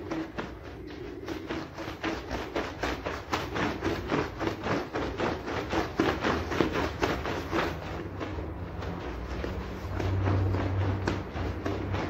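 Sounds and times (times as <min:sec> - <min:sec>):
brush scrubbing wet rug: 0:00.0 - 0:12.0.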